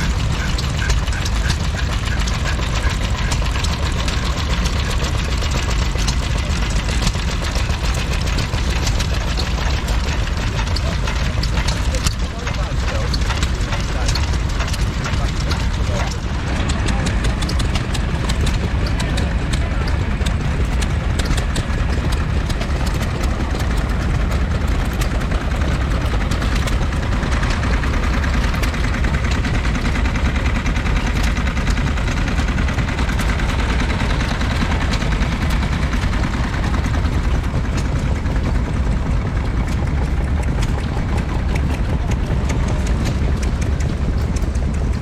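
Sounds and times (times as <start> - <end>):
stationary engine running: 0.0 - 45.0.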